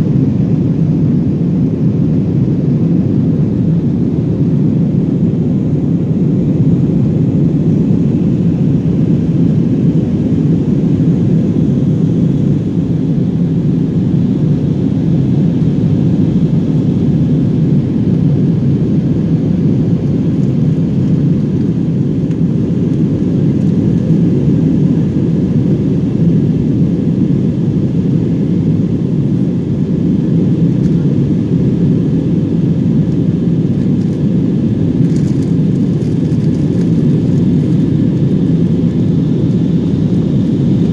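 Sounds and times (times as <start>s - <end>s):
aircraft cabin rumble: 0.0s - 40.9s.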